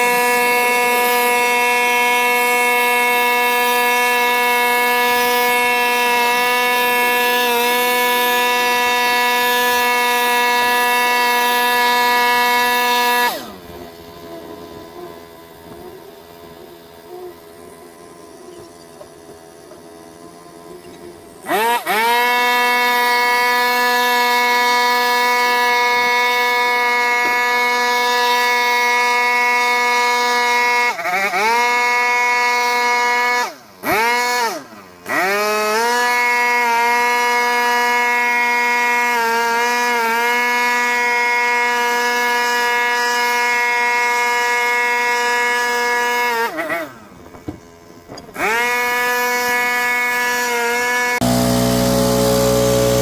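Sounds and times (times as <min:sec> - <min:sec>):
small engine high-pitched whine: 0:00.0 - 0:53.0.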